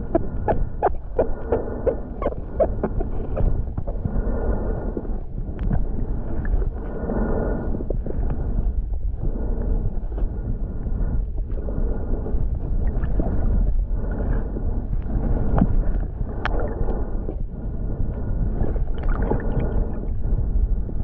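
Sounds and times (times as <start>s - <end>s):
faint clicks and gurgles: 0.0s - 21.0s
muffled underwater rush: 0.0s - 21.0s.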